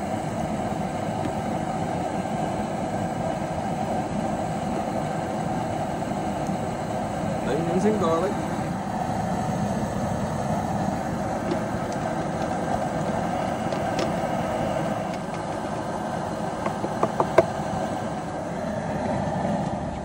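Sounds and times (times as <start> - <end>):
gas burner running: 0.0 - 20.0
water boiling in pot: 0.0 - 20.0.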